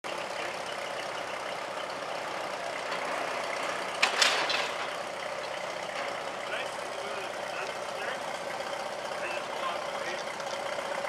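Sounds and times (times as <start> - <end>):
cement mixer running: 0.1 - 11.0.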